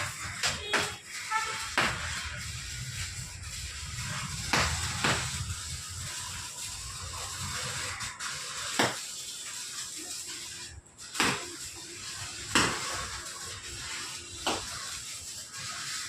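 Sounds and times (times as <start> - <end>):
arc welding frying hiss: 0.0 - 16.0.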